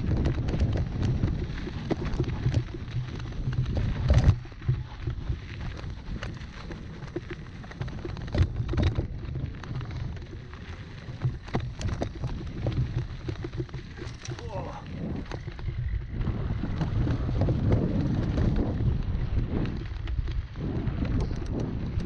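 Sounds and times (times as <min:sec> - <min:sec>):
bike rattling and knocking: 0:00.0 - 0:22.0
bike tyres crackling over grit: 0:00.0 - 0:22.0
wind rumble on microphone: 0:00.0 - 0:22.0.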